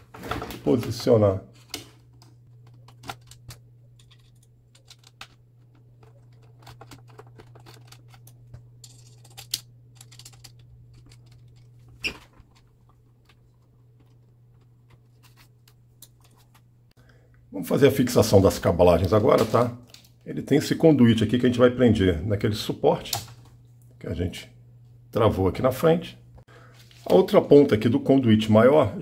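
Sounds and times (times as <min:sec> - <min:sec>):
faint low hum: 0:00.2 - 0:29.0.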